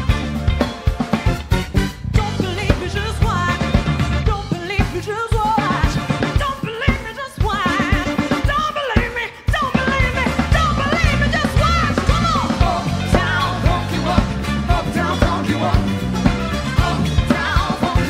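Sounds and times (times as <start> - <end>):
electric guitar: 0.0 - 8.7, 9.7 - 18.0
keyboard: 0.0 - 8.8, 9.7 - 18.0
drum kit: 0.0 - 18.0
woman singing with vibrato: 2.2 - 16.0, 16.6 - 18.0.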